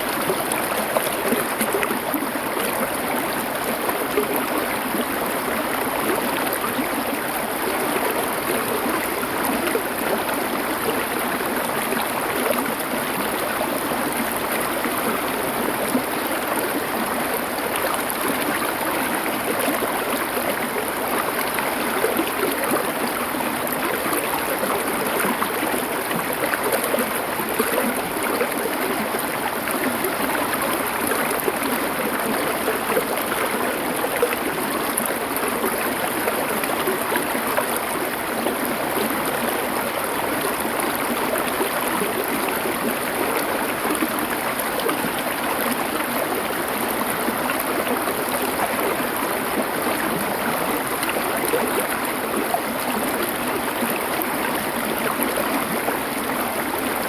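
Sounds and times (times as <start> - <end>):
stream water over stones: 0.0 - 57.0.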